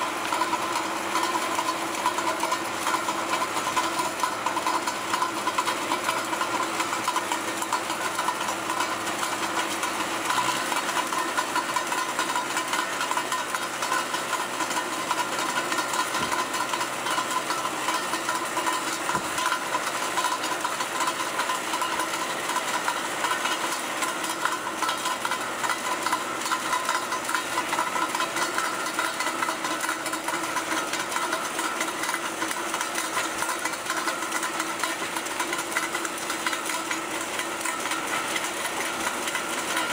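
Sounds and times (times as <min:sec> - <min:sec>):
cutter grinding through ice: 0:00.0 - 0:39.9
tractor diesel engine under load: 0:00.0 - 0:39.9.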